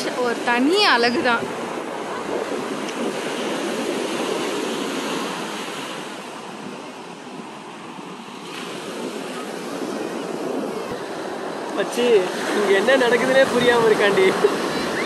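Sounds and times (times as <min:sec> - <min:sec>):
sea surf washing on beach: 0:00.0 - 0:15.0.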